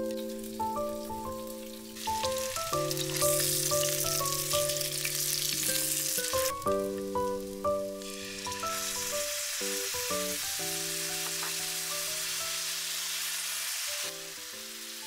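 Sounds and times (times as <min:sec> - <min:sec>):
background music: 0:00.0 - 0:12.8, 0:14.0 - 0:15.0
tofu sizzling in hot oil: 0:00.0 - 0:15.0.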